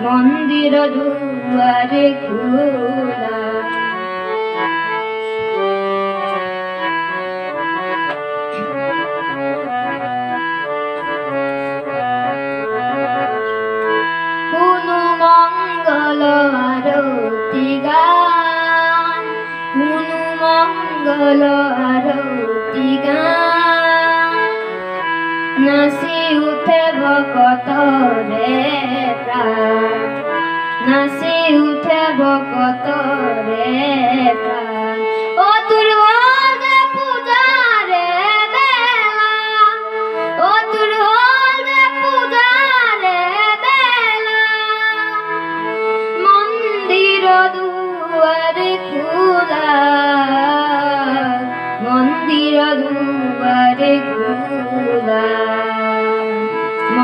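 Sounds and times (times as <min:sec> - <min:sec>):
boy singing into a microphone: 0:00.0 - 0:57.0
instrumental backing music: 0:00.0 - 0:57.0.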